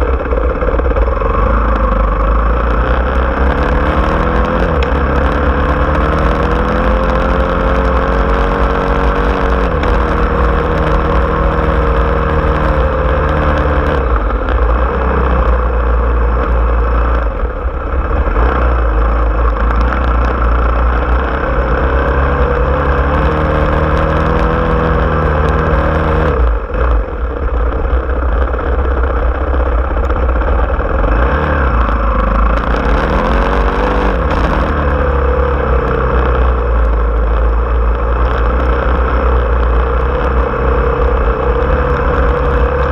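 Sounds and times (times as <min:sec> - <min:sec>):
small vehicle engine running: 0:00.0 - 0:42.9.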